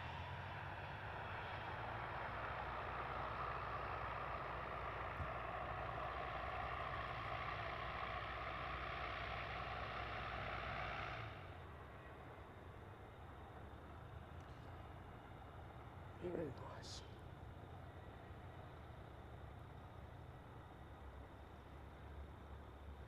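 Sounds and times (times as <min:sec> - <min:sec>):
aircraft engine with faint whine: 0:00.0 - 0:23.0.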